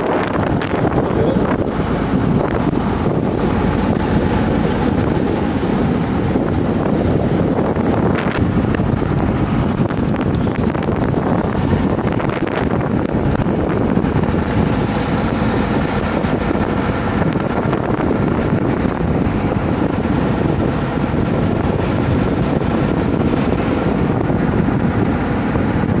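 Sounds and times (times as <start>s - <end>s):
speedboat engine: 0.0s - 26.0s
water rushing: 0.0s - 26.0s
wind buffeting microphone: 0.0s - 26.0s.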